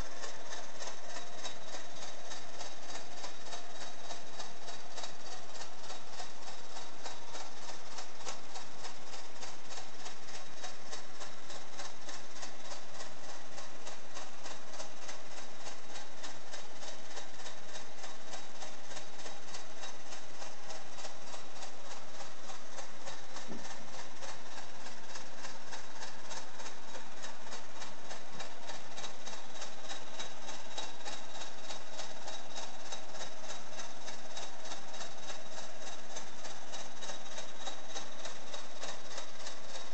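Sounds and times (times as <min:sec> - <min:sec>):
model steam engine mechanical clatter: 0:00.0 - 0:39.9.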